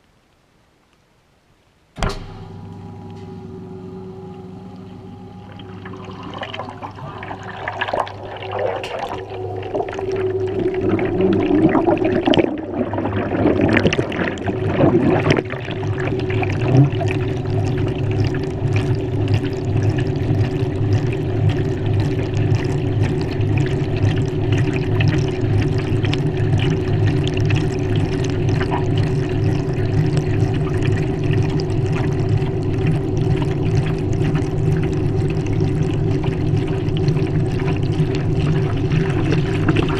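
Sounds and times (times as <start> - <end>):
pulsing low hum: 2.0 - 39.9
washing machine motor hum: 2.0 - 39.9
water splashing in washing machine: 2.0 - 39.9.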